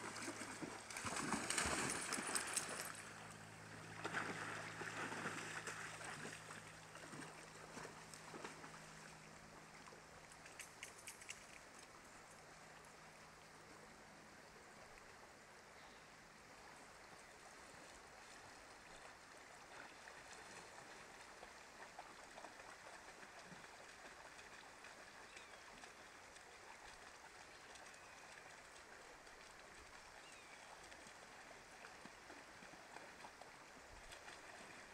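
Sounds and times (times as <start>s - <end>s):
creek running over gravel: 0.0s - 34.9s.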